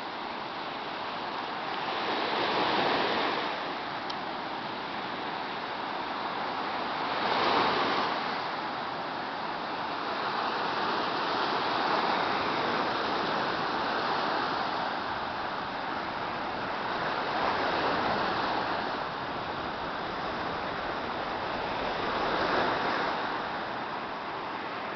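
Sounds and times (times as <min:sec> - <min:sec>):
sea waves washing onto shore: 0:00.0 - 0:24.9.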